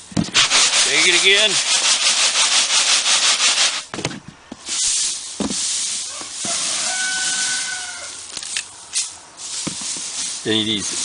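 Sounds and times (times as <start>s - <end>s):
grain rustling in shaken sieve: 0.3s - 3.9s, 4.6s - 8.2s, 9.0s - 11.0s.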